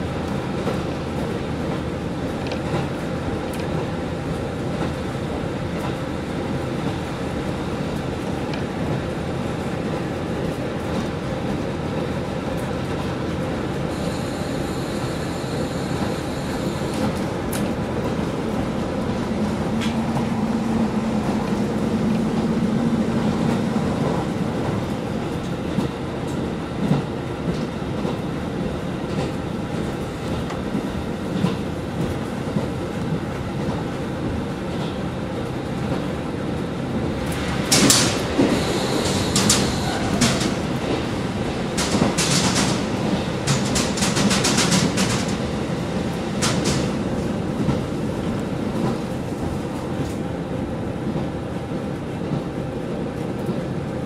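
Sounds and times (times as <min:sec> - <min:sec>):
train running noise: 0:00.0 - 0:54.0.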